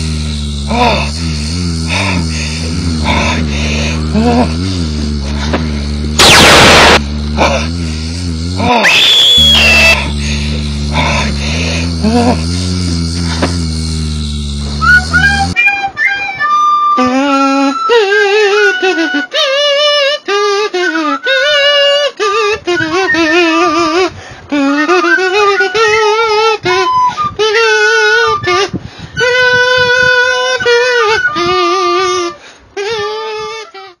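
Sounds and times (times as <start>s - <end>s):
high voice singing with vibrato: 0.0s - 34.0s.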